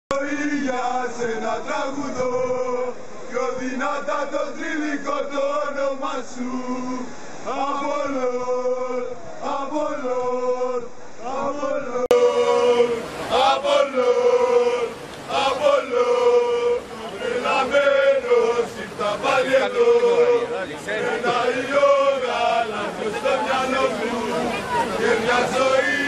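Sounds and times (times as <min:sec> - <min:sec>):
men chanting together: 0:00.1 - 0:26.0.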